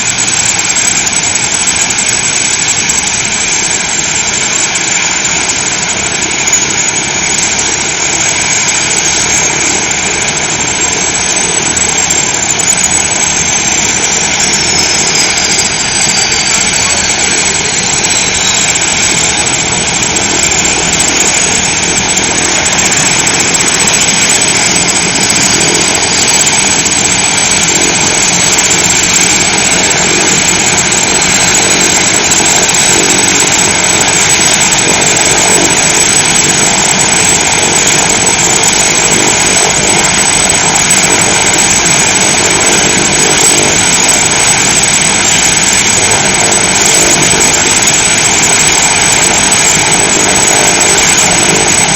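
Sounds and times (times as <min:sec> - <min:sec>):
faint high whine: 0:00.0 - 0:51.9
helicopter engine and rotor: 0:00.0 - 0:51.9.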